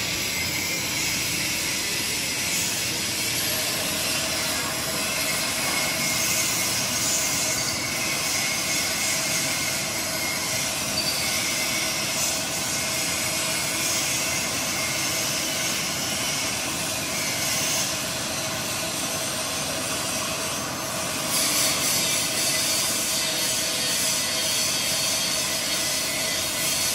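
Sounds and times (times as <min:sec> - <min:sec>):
metalworking machinery hissing: 0:00.0 - 0:26.9.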